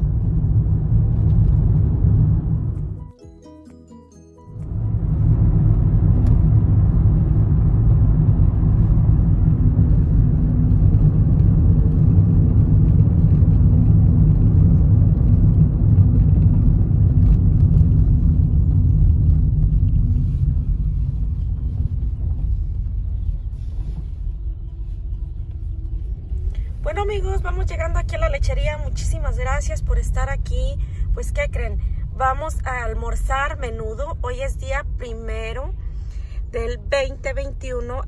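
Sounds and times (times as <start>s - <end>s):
car road and engine rumble: 0.0s - 3.2s, 4.5s - 38.0s.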